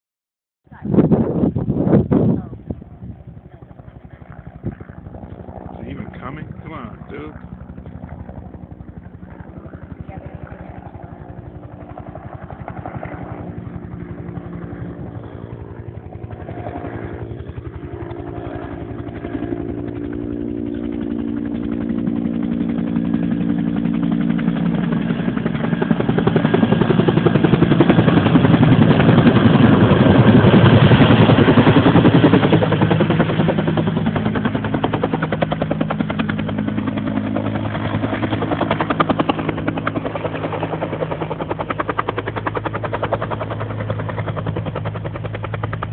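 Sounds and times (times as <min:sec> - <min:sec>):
helicopter rotor and engine: 0:00.7 - 0:45.9.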